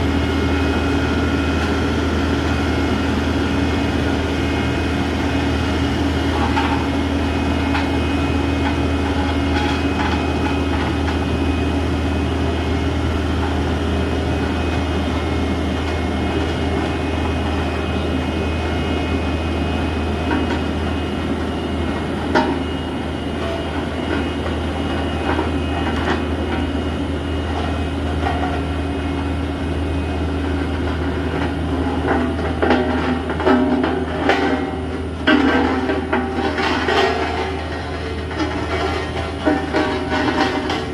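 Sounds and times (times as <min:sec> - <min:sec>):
truck diesel engine droning: 0:00.0 - 0:40.9.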